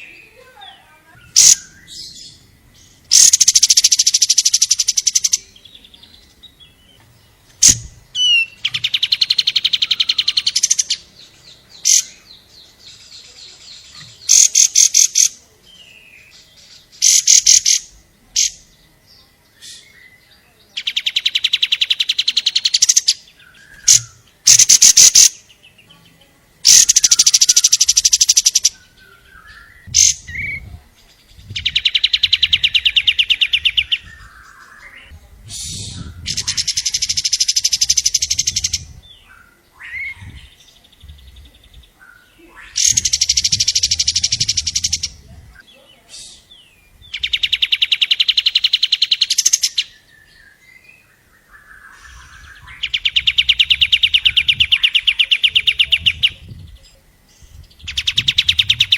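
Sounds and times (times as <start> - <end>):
sharp bird calls: 0.0 - 6.2, 7.3 - 18.7, 20.8 - 25.6, 26.6 - 58.9.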